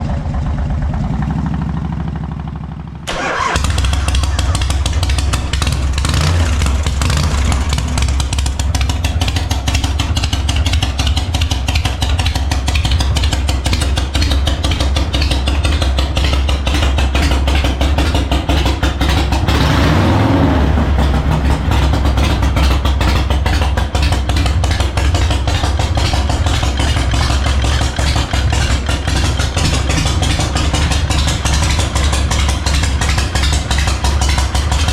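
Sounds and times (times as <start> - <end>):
motorcycle engine starting and running: 0.0 - 34.9.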